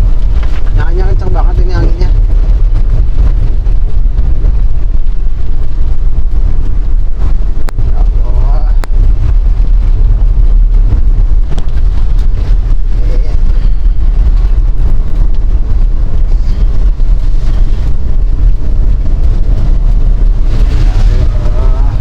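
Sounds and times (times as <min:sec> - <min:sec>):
car running noise: 0:00.0 - 0:22.0
strong gusty wind on microphone: 0:00.0 - 0:22.0.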